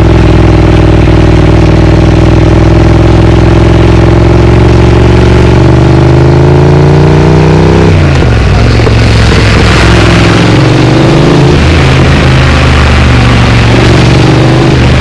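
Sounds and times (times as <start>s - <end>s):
motorcycle engine accelerating: 0.0s - 15.0s
rough noisy exhaust: 0.0s - 15.0s.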